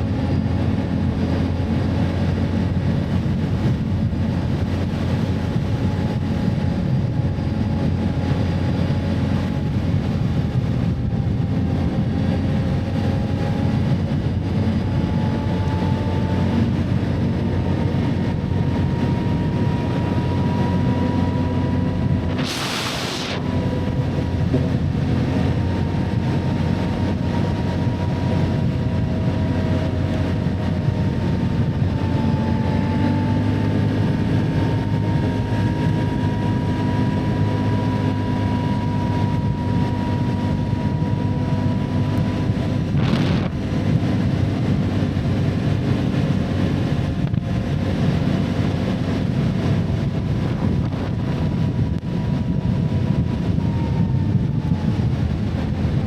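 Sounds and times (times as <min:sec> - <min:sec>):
vehicle engine running: 0:00.0 - 0:56.0
wind on microphone: 0:00.0 - 0:56.0.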